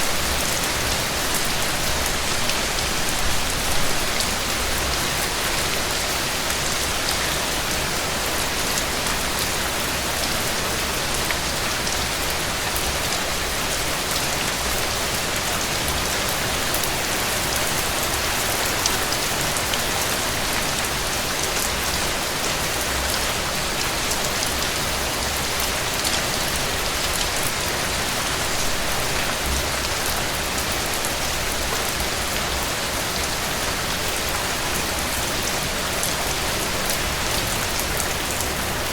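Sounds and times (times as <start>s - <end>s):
heavy rain on a porch: 0.0s - 38.9s.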